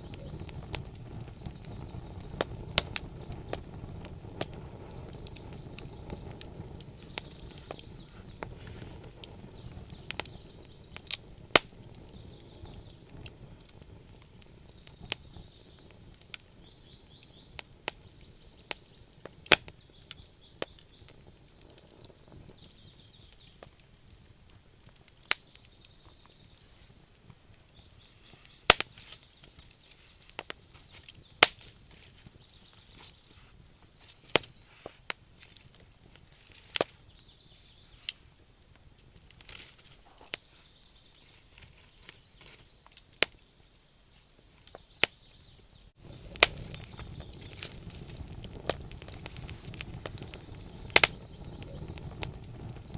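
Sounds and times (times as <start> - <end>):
wood fire crackling in stove: 0.0 - 52.9.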